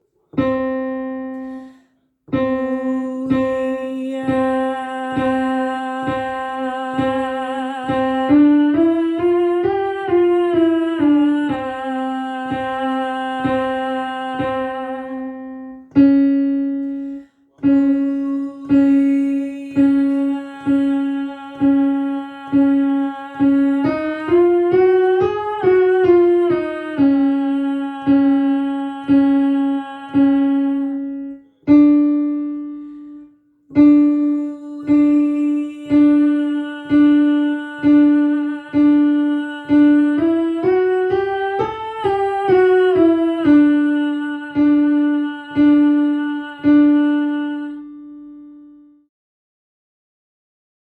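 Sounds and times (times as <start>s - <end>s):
piano repeating chords: 0.0s - 48.9s.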